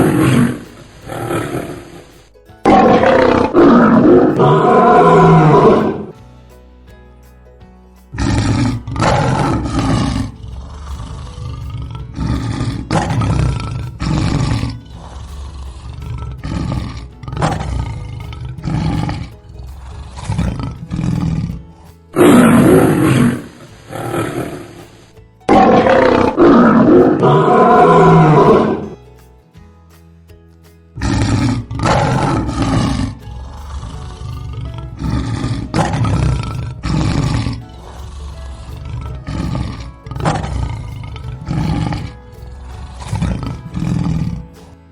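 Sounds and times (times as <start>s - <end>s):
lions roaring: 0.0s - 2.1s, 2.7s - 6.2s, 8.2s - 29.0s, 31.0s - 44.9s.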